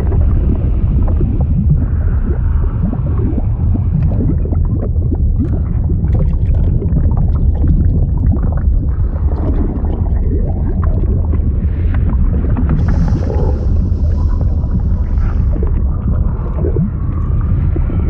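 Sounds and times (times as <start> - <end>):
deep liquid rumble: 0.0 - 18.0
gurgling and bubbling blips: 0.0 - 18.0.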